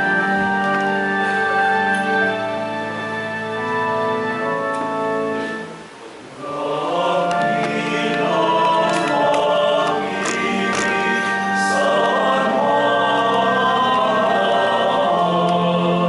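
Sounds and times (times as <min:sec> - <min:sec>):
choir singing a hymn: 0:00.0 - 0:16.0
church organ chords: 0:00.0 - 0:16.0.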